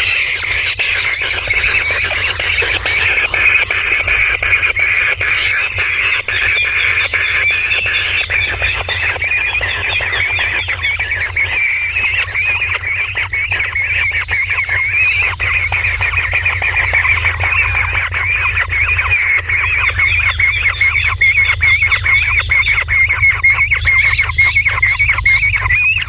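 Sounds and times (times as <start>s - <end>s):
birds calling: 0.0s - 26.0s
pulsing insect trill: 0.0s - 26.0s.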